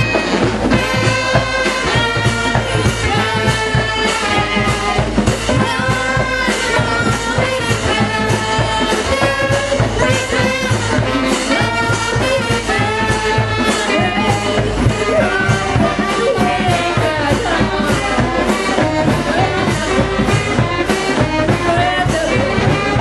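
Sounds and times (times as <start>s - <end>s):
brass marching band playing: 0.0s - 23.0s.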